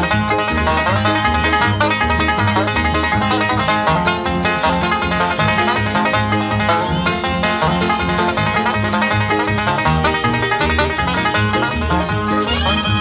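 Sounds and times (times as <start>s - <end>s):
banjo bluegrass music: 0.0s - 13.0s.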